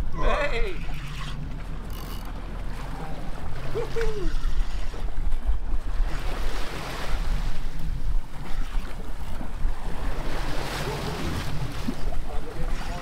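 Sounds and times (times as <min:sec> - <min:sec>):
low engine hum: 0:00.0 - 0:12.7
water splashing against boat: 0:00.0 - 0:13.0.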